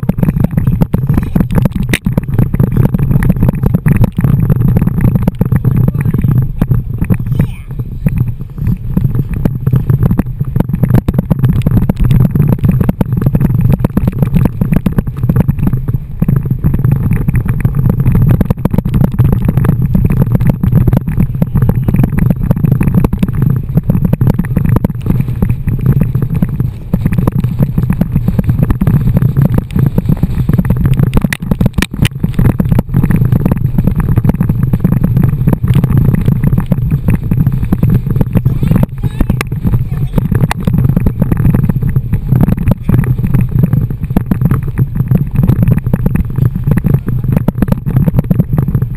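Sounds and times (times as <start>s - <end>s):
water splashes crackling: 0.0s - 48.9s
wind buffeting camera: 0.0s - 48.9s.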